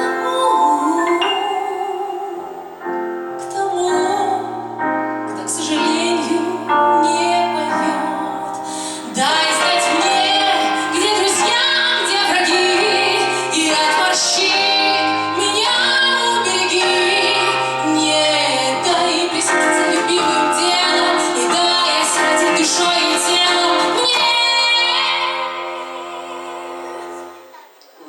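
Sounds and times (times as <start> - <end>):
woman singing: 0.0 - 2.8, 3.4 - 27.3
instrumental accompaniment: 0.0 - 27.8.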